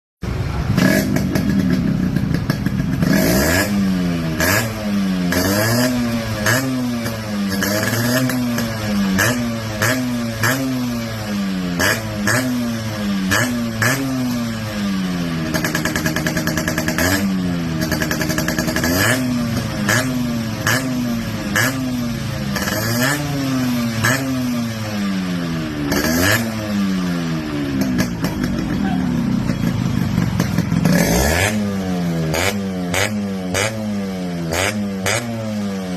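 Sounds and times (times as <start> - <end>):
two-stroke engine revving: 0.2 - 35.9.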